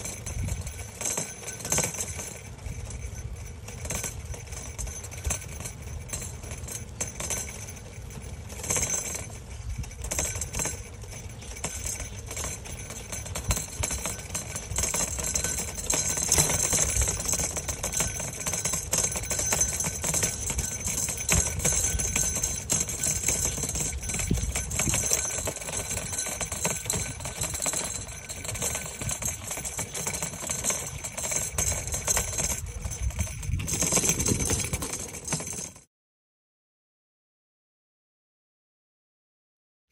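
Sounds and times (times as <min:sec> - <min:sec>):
road and wind rumble: 0:00.0 - 0:35.5
bike rattling and jingling: 0:00.0 - 0:35.9.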